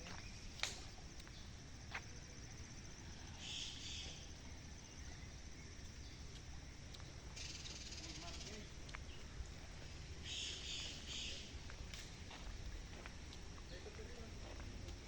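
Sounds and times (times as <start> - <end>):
insects chirping trill: 0.0 - 15.0.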